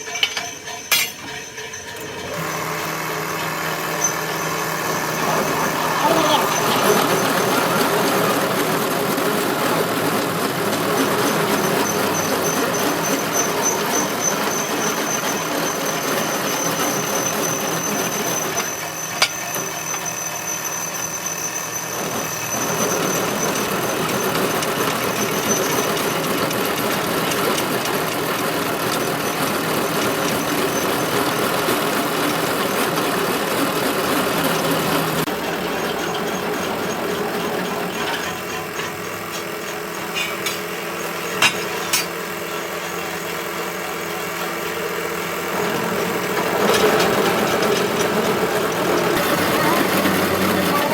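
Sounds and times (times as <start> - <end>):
workshop machinery whining: 0.0 - 50.9.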